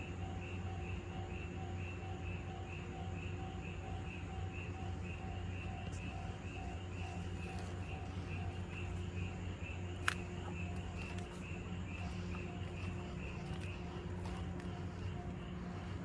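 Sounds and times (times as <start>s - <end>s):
level crossing warning bell: 0.0s - 16.0s
steady low hum: 0.0s - 16.0s.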